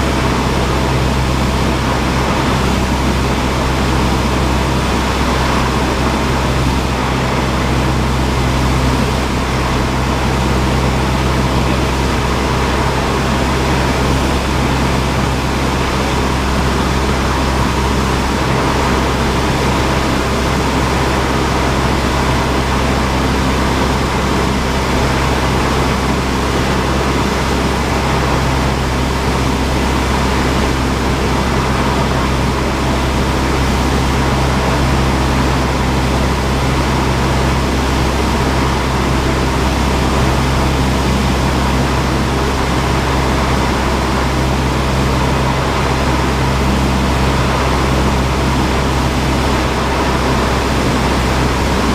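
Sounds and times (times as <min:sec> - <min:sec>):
propeller aircraft engine drone: 0:00.0 - 0:51.9.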